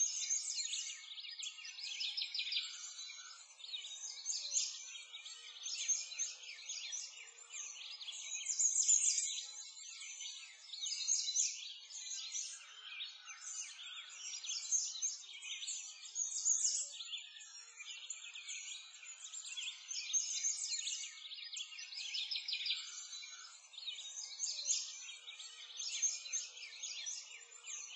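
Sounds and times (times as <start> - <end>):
songbirds chirping and trilling: 0.0 - 27.9.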